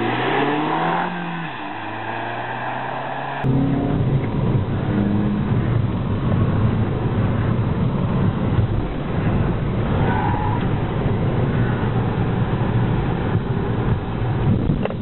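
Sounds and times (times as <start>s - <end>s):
car engine under load: 0.0s - 15.0s
road and wind rumble: 0.0s - 15.0s.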